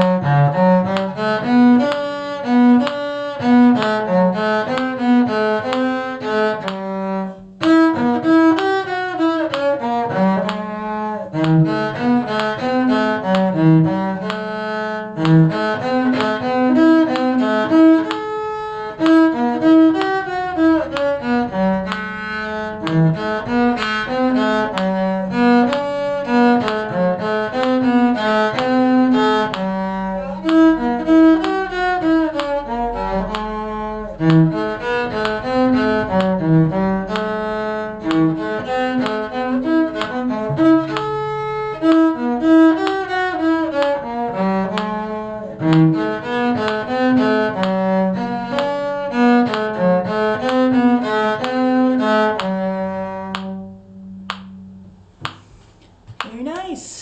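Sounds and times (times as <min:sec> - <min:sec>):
bowed strings and cello playing: 0:00.0 - 0:56.6.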